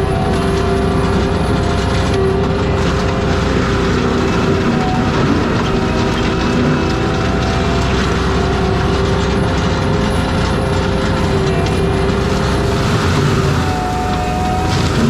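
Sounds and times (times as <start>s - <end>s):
track loader with mulcher running: 0.0s - 15.0s.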